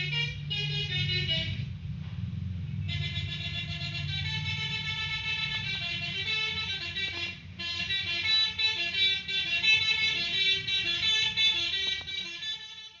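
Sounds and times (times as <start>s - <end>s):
multi-note bus horn tune: 0.0s - 1.8s, 2.7s - 13.0s
bus engine rumble: 0.0s - 13.0s.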